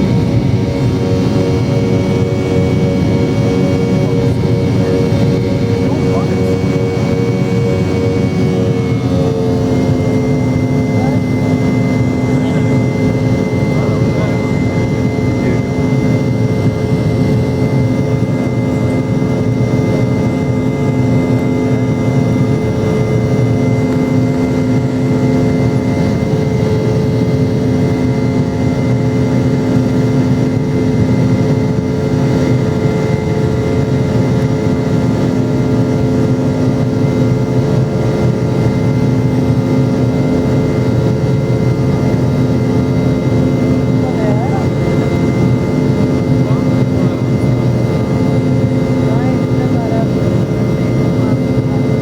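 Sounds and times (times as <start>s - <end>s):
jet engine drone in cabin: 0.0s - 52.0s.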